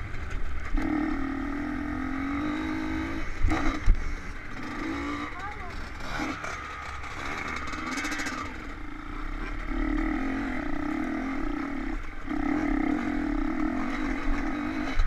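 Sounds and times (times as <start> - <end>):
dirt bike engine at high revs: 0.0 - 15.0.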